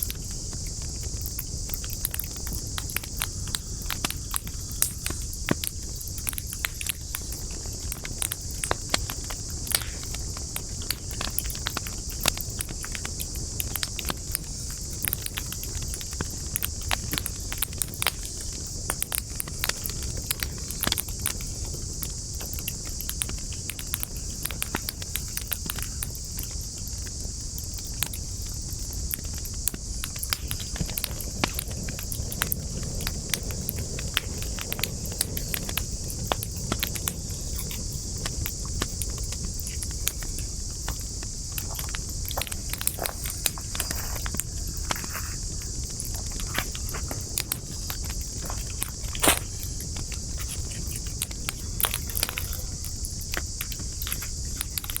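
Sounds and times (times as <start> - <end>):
campfire crackling and popping: 0.0 - 55.0
low rumble of burning: 0.0 - 55.0.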